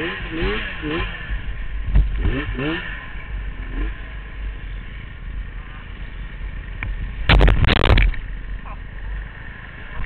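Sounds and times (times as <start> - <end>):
snowmobile engine running under load: 0.0 - 10.0.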